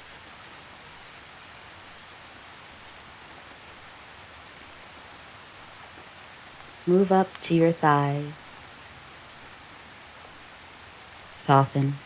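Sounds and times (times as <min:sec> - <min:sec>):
gentle rain hiss: 0:00.0 - 0:12.0
raindrops pattering on a surface: 0:00.0 - 0:12.0.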